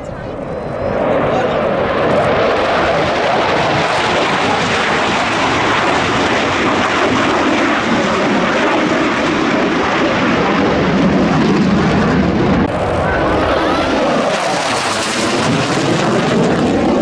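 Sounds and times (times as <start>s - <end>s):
jet engine roar overhead: 0.0s - 17.0s.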